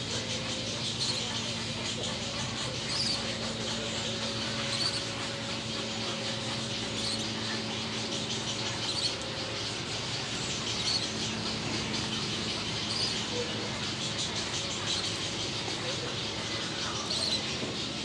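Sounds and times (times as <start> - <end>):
bird chirping high: 0.2 - 18.0.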